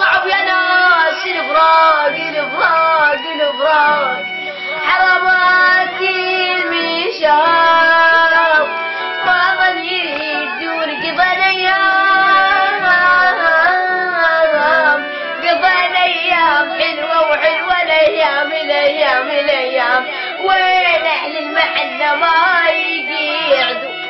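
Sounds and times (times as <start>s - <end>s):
boy singing: 0.0s - 24.0s.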